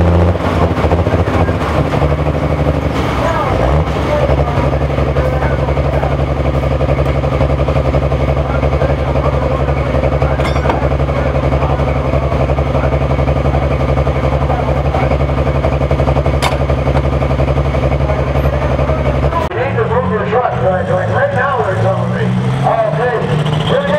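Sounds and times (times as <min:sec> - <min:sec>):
diesel truck idling: 0:00.0 - 0:23.9.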